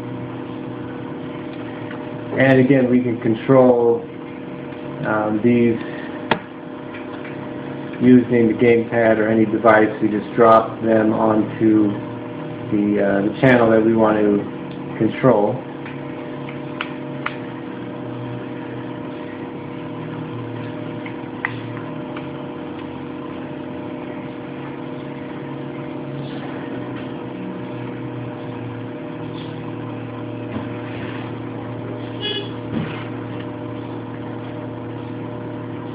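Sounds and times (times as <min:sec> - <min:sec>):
computer electrical and fan hum: 0:00.0 - 0:35.9.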